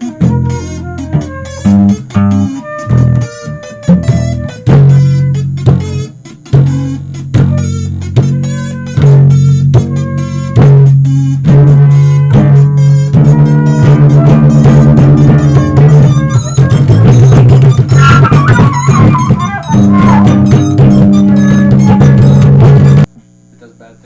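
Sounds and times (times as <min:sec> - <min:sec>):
plucked guitar notes: 0:00.0 - 0:23.1
electric bass: 0:00.0 - 0:23.2.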